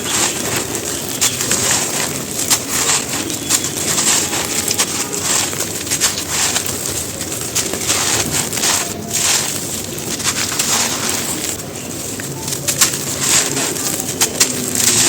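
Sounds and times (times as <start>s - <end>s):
cement chunks being crushed: 0.0s - 15.0s.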